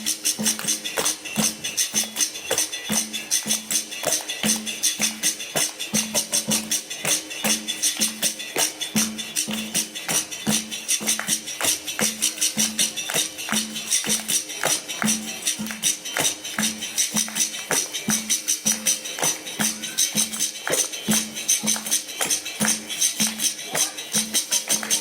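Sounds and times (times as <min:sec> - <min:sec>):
pandeiro jingles: 0:00.0 - 0:25.0
shaker rattle: 0:00.0 - 0:25.0.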